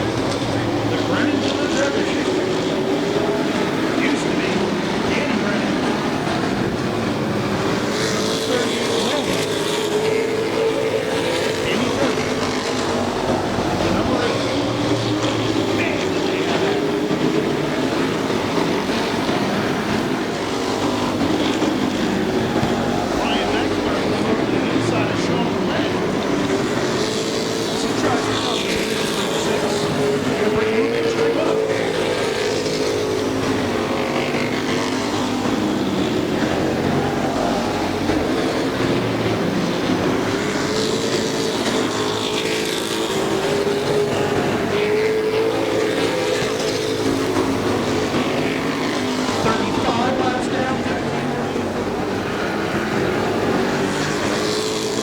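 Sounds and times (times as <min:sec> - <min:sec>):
race truck engines droning: 0:00.0 - 0:55.0.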